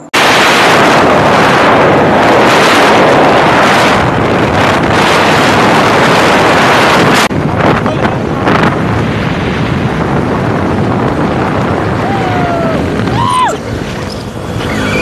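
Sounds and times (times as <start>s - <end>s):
wind buffeting microphone: 0.2s - 15.0s
motorcycle engine running: 0.8s - 15.0s.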